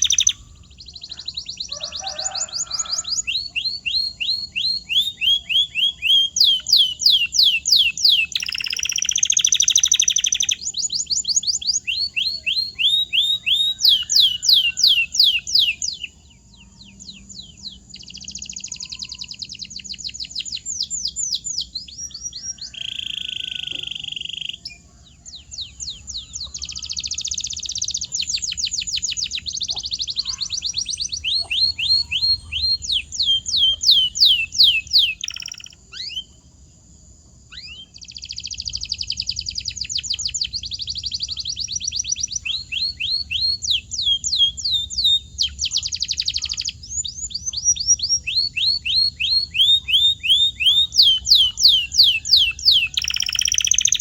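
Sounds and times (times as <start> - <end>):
canary singing: 0.0 - 36.6, 37.5 - 54.0.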